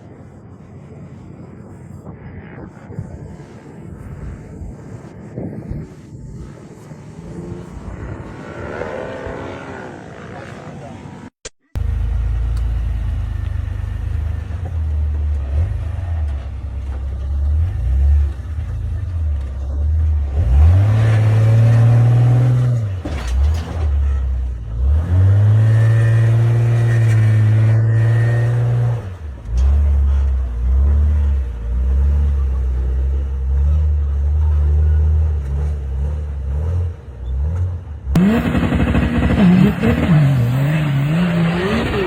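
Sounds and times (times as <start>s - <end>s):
off-road vehicle engine revving: 5.8s - 42.0s.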